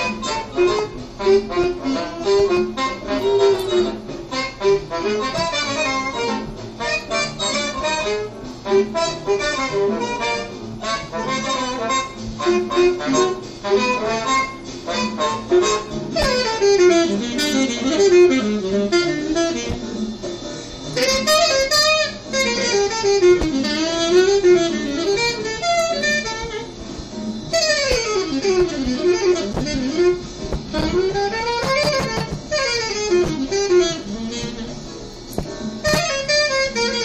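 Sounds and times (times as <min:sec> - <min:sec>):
instrumental music with bending notes: 0:00.0 - 0:37.0.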